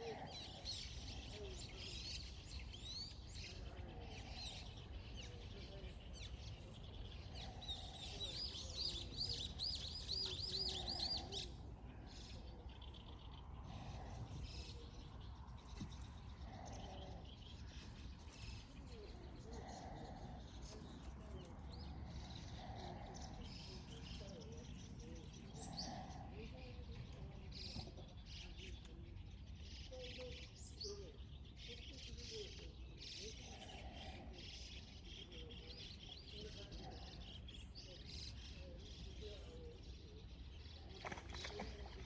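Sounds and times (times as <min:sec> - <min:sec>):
wind: 0:00.0 - 0:42.0.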